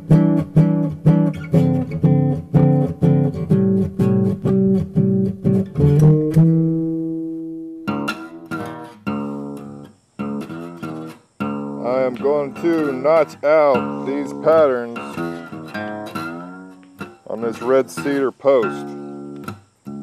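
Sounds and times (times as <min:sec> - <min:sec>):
guitar plucked notes: 0:00.0 - 0:20.0.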